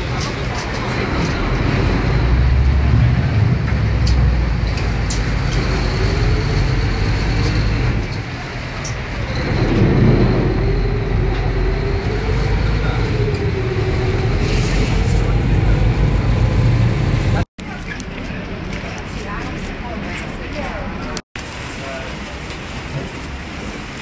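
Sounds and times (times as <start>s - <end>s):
boat engines running: 0.0s - 24.0s
water noise: 0.0s - 24.0s.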